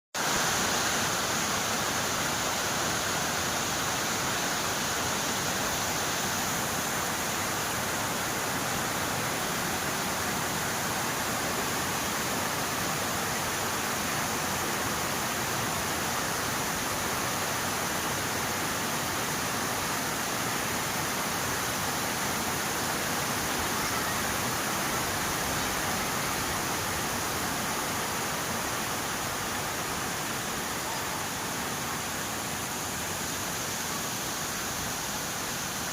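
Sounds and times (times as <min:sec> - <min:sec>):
steady rain falling: 0:00.2 - 0:35.9.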